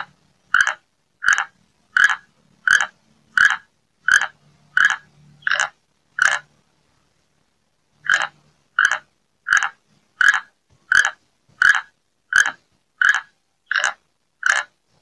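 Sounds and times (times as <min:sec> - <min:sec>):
animal calling: 0:00.0 - 0:06.5, 0:08.0 - 0:14.7.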